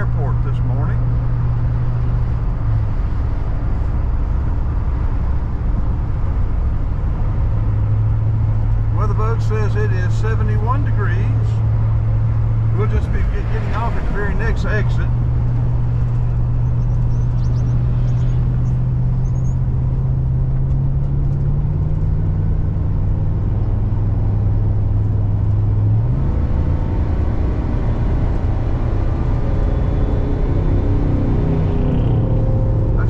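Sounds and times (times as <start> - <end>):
car engine and road drone: 0.0 - 33.0.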